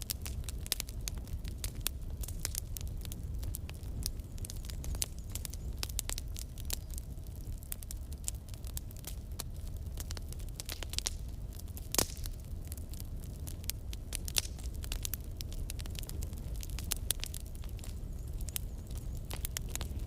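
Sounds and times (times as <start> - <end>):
fire crackles and pops: 0.0 - 20.0
wood fire rumbling: 0.0 - 20.0.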